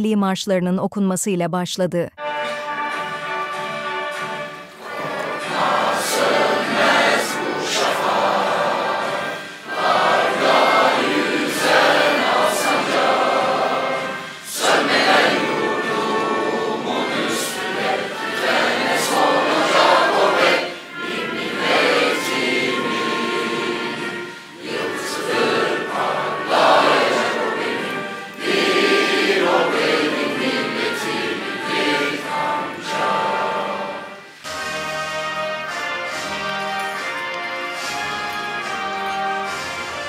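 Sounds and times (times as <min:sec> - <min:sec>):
group singing an anthem: 0:04.2 - 0:37.0.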